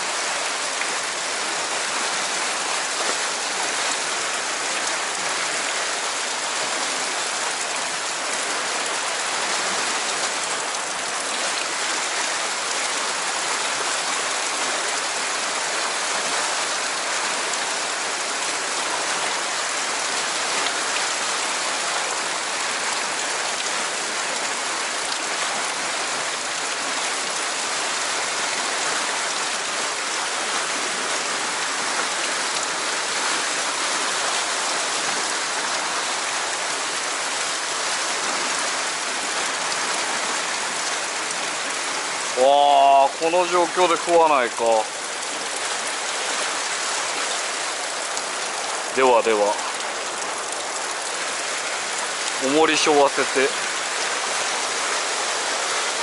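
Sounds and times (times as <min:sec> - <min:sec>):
whitewater rushing: 0:00.0 - 0:56.0.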